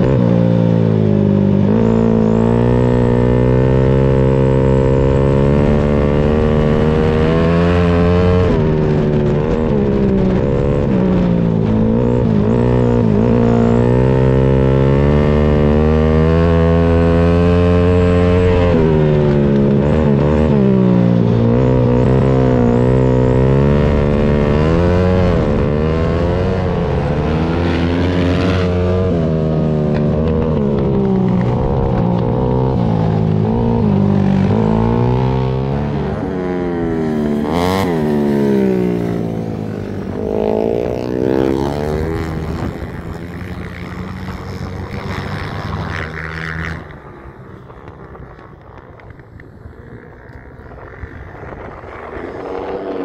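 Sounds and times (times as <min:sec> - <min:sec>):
motorcycle engine revving: 0:00.0 - 0:53.0
motorcycle passing close: 0:00.0 - 0:53.0.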